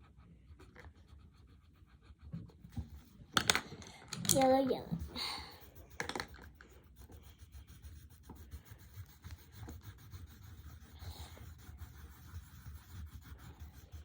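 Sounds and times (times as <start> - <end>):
coloured pencils scratching paper: 0.0 - 3.4, 4.4 - 14.0.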